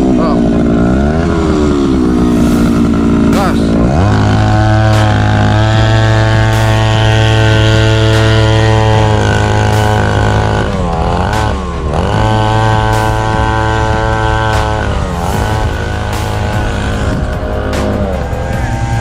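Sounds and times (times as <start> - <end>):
small motorcycle engine running: 0.0 - 19.0.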